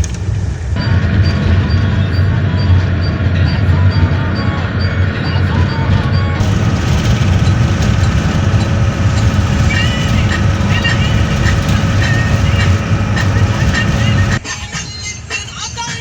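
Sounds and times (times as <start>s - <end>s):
vehicle rumbling in motion: 0.0s - 14.4s
faint pitched sounds: 0.8s - 14.4s.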